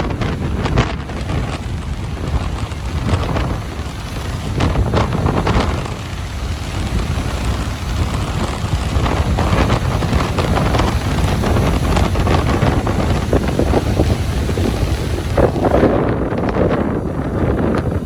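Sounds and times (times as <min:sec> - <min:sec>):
ocean surf on a beach: 0:00.0 - 0:18.0
wind buffeting microphone: 0:00.0 - 0:18.0.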